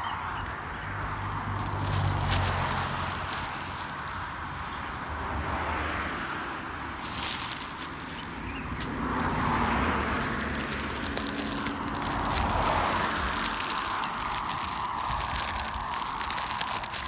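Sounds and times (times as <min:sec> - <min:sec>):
cars passing: 0:00.0 - 0:17.0
light crackling: 0:00.4 - 0:04.4, 0:06.8 - 0:17.0.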